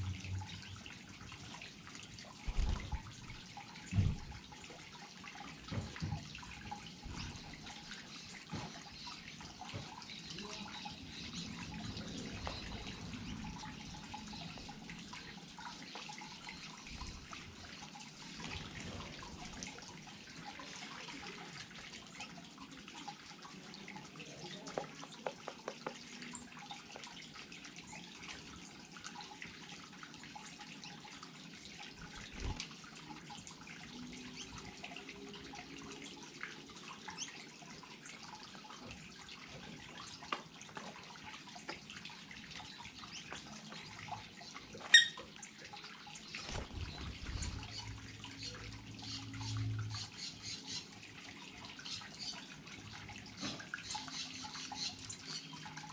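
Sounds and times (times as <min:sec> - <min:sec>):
waterfall trickling and splashing: 0:00.0 - 0:55.9.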